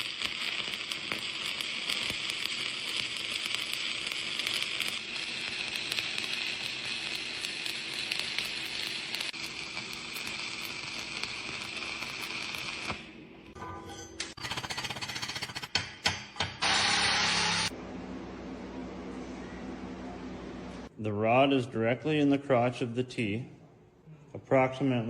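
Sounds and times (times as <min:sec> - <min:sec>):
welding arc crackling sizzle: 0:00.0 - 0:13.6, 0:14.2 - 0:20.9.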